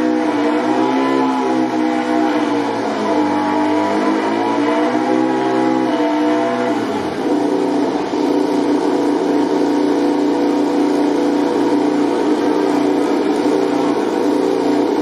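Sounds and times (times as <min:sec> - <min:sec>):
racing motorcycle engine running: 0:00.0 - 0:15.0.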